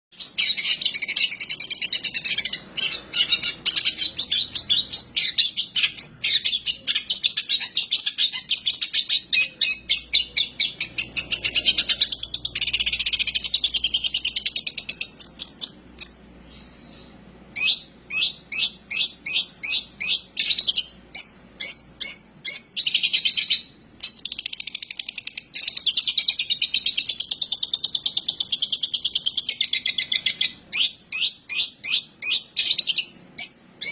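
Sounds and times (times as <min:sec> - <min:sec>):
bird singing chattering song: 0:00.1 - 0:33.9.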